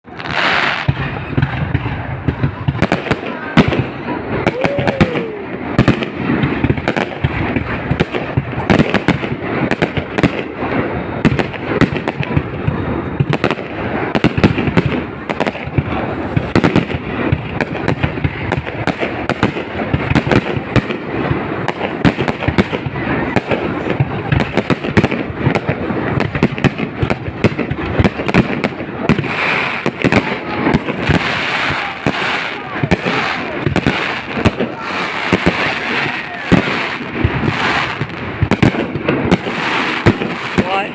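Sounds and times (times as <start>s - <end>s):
firework crackling: 0.0s - 40.9s
firework shell bursts and bangs: 0.1s - 40.9s.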